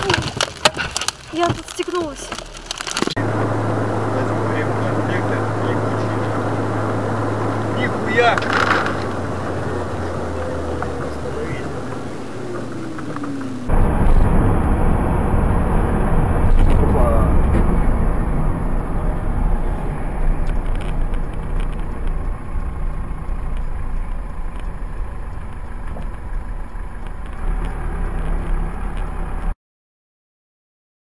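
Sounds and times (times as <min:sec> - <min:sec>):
car engine and road rumble: 0:00.0 - 0:29.6.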